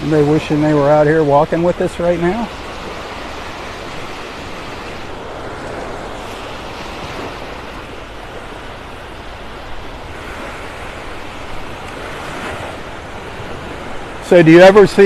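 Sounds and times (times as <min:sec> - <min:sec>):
waves breaking on beach: 0:00.0 - 0:15.0
wind rumbling on microphone: 0:00.0 - 0:15.0.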